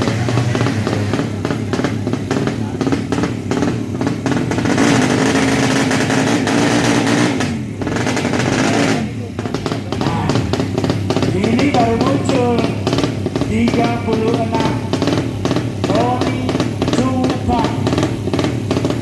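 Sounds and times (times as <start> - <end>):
motorcycle engine at high revs: 0.0 - 19.0.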